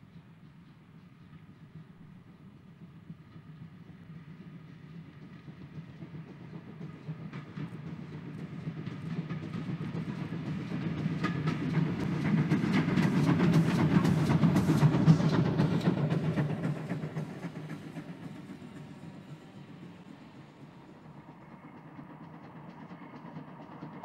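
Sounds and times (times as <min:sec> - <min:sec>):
steam engine: 0:00.0 - 0:24.0.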